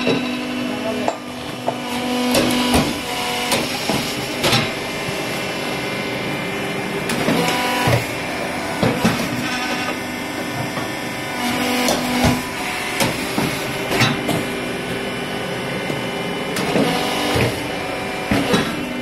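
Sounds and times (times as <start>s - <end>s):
briquette press droning hum: 0.0s - 19.0s.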